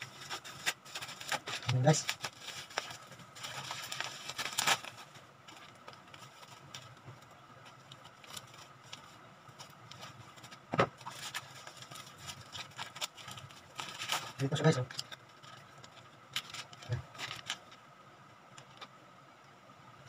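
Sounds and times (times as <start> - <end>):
plastic wrapping crinkling: 0.0 - 17.8.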